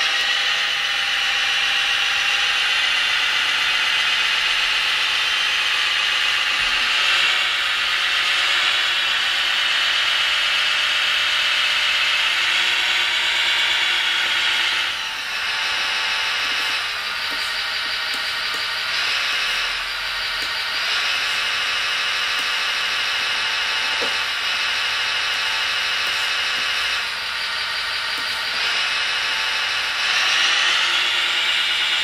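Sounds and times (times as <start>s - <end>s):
high electric motor whir: 0.0s - 32.0s.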